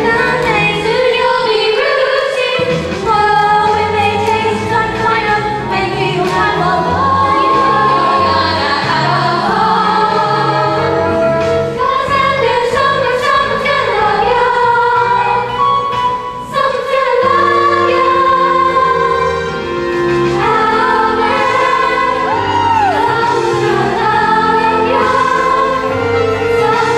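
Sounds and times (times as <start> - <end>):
group of voices singing: 0.0 - 15.8, 16.4 - 26.9
instrumental accompaniment: 0.0 - 26.9.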